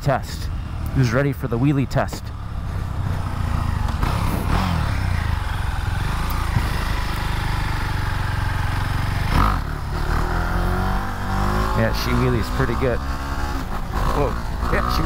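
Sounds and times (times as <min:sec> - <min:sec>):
motorcycle engine pulling hard: 0:00.8 - 0:15.0.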